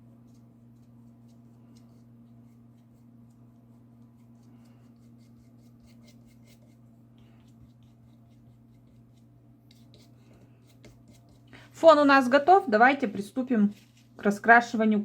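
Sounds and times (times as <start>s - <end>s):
paintbrush dabbing on paper: 0.0s - 11.5s, 12.2s - 14.3s
steady low hum: 0.0s - 15.0s.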